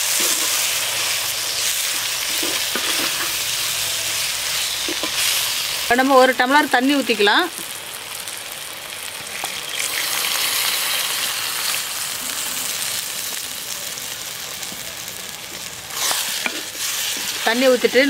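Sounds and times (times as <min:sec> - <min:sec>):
water sizzling in a hot pot: 0:00.0 - 0:18.0.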